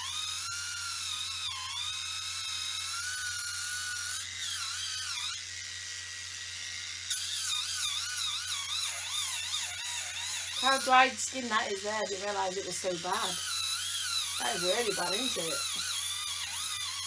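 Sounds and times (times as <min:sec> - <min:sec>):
callus remover motor whine: 0:00.0 - 0:17.0.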